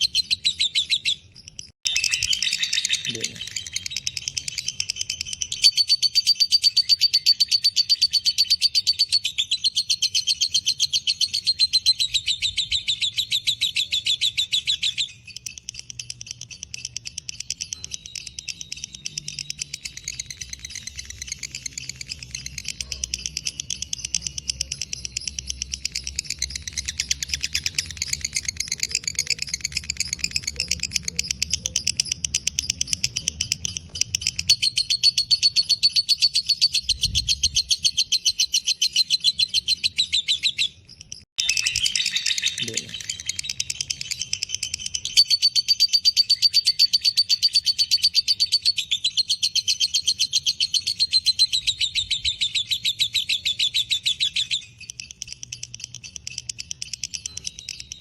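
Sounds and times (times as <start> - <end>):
bird chattering trill: 0.0 - 58.0.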